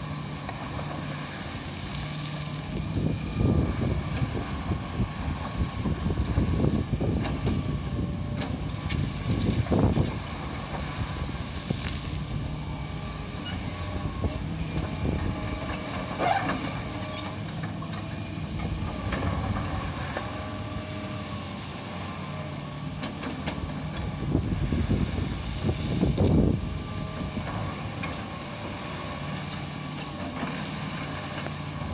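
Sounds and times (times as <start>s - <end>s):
excavator diesel engine whining: 0.0s - 31.9s.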